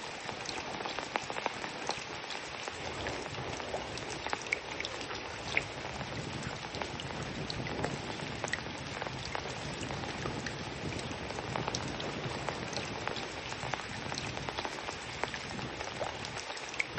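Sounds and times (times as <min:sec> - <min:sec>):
patter of falling water: 0:00.0 - 0:16.9.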